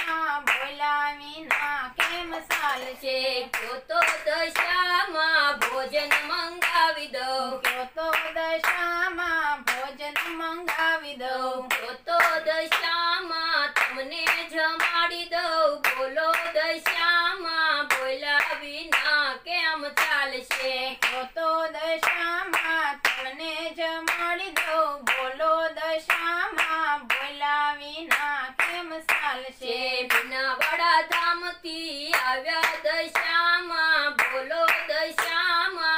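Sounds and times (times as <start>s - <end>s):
devotional song singing: 0.0s - 35.9s
rhythmic hand clapping: 0.0s - 35.9s.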